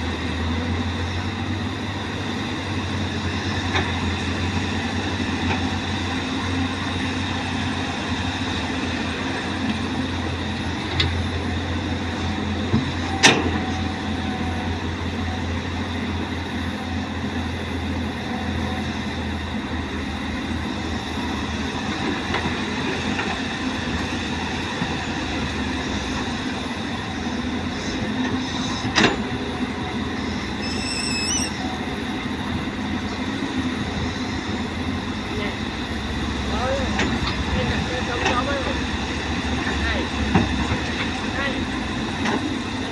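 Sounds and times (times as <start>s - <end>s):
excavator engine humming: 0.0s - 42.9s.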